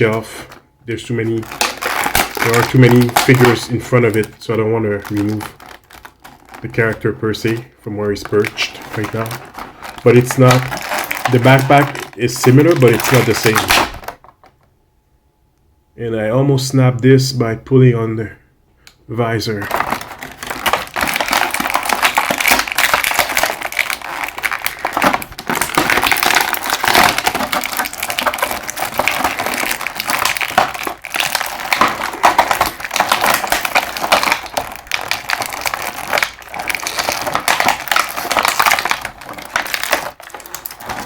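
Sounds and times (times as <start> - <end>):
plastic packaging crinkling: 0.0 - 14.6, 19.5 - 41.0.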